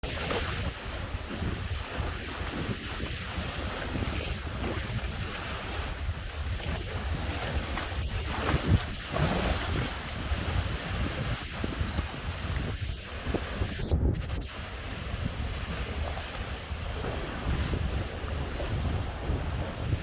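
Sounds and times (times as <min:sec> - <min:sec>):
waves washing along hulls: 0:00.0 - 0:20.0
wind buffeting microphone: 0:00.0 - 0:20.0.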